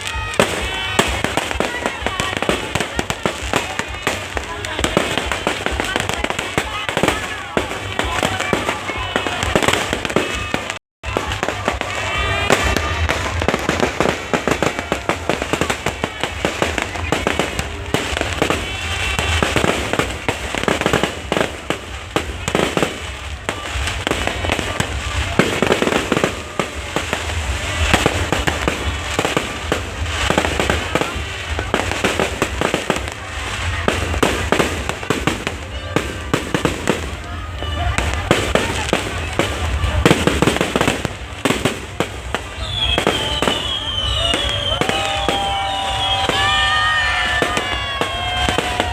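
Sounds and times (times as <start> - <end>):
fireworks bangs and crackling: 0.0 - 48.9
voices: 0.0 - 48.9.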